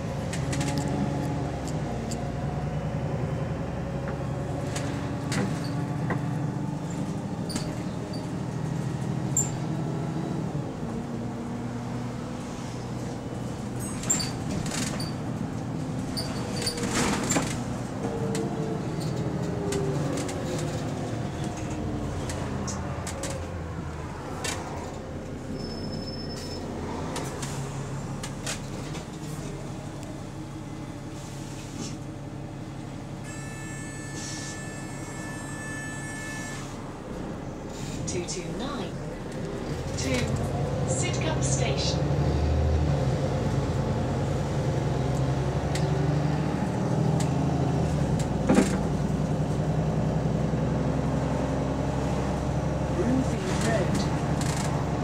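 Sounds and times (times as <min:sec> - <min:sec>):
bus engine: 0:00.0 - 0:55.0.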